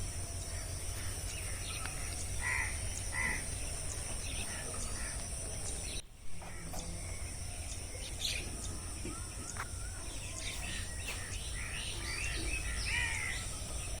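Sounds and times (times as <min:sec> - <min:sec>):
birds chirping and calling: 0:00.0 - 0:14.0
low background rumble: 0:00.0 - 0:14.0.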